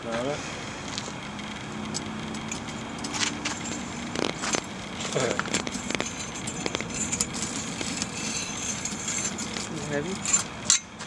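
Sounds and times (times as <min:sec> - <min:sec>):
metal tongs clinking and scraping: 0:01.9 - 0:10.9.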